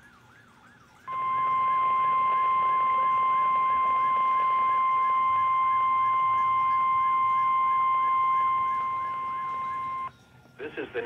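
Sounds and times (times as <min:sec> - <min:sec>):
steady warning alarm tone: 0:00.0 - 0:10.1
faint warble: 0:01.1 - 0:10.2.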